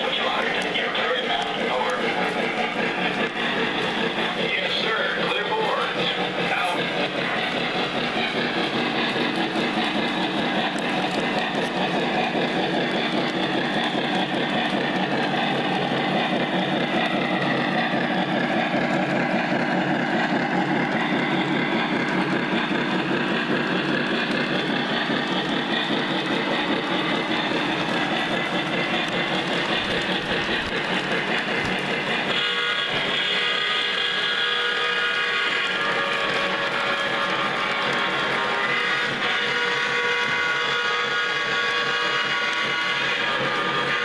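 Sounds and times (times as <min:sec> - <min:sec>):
model train wheels rumbling: 0:00.0 - 0:44.0
train whistle: 0:00.0 - 0:44.0.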